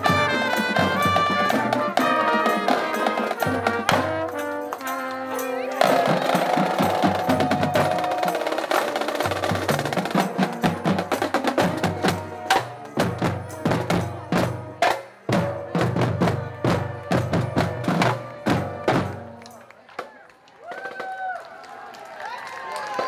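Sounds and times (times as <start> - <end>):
snare drums: 0.0 - 21.2.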